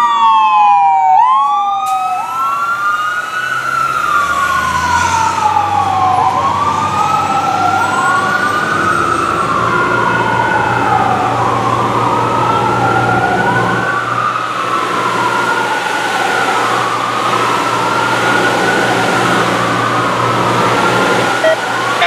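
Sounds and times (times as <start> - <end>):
fire truck sirens wailing: 0.0 - 22.0.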